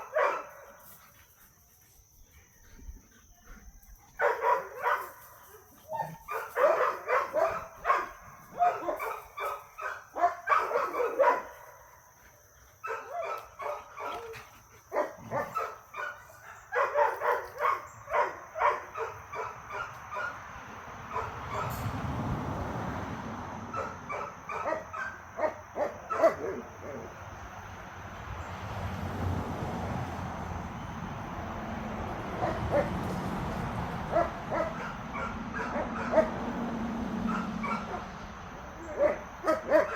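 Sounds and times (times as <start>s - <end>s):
dogs barking and yipping: 0.0s - 22.0s, 23.6s - 27.4s, 32.0s - 39.9s.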